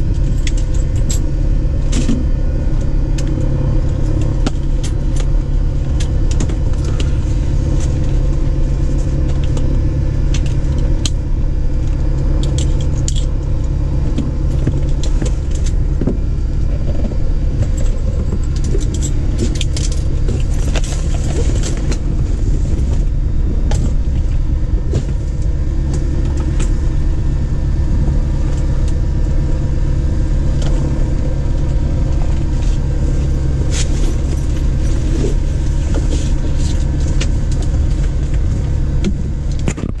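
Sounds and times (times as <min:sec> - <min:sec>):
aircraft engine idling: 0:00.0 - 0:40.0.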